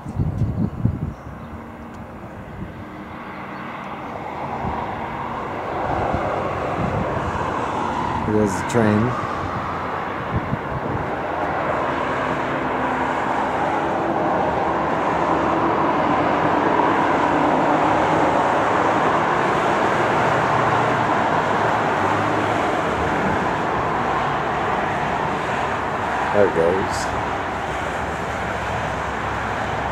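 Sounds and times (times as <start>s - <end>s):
train passing rumble: 1.3s - 29.9s.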